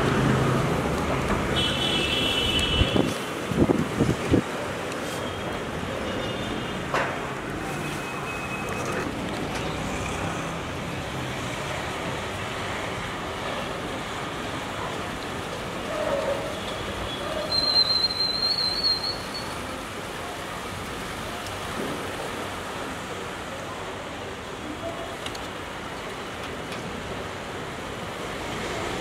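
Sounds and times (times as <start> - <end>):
rushing outdoor background noise: 0.0 - 29.0.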